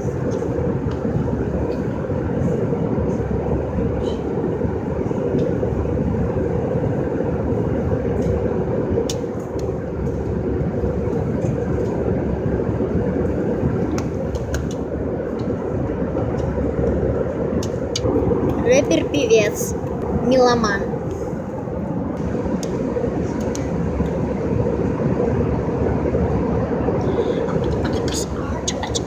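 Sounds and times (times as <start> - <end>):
airliner cabin drone: 0.0 - 29.0.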